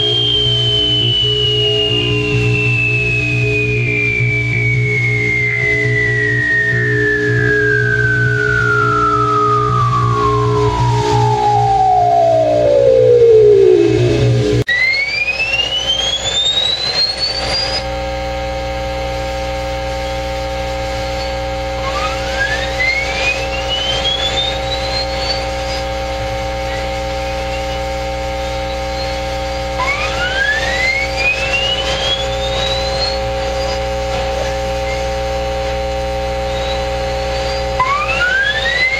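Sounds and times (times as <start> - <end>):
radio humming tones: 0.0 - 38.9
rising pitch sweeps: 0.0 - 38.9.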